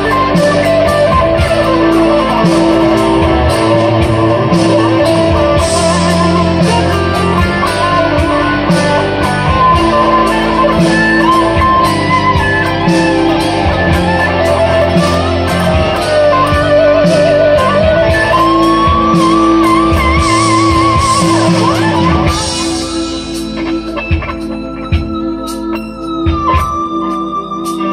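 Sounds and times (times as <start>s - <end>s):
electric guitar lead with vibrato: 0.0s - 27.9s.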